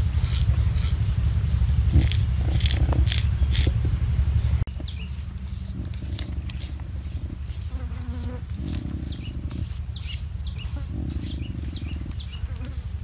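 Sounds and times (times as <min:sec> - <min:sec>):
high bird chirps: 0:00.0 - 0:07.8, 0:08.7 - 0:12.9
pulsing buzz: 0:00.0 - 0:13.0
steady low hum: 0:00.0 - 0:13.0.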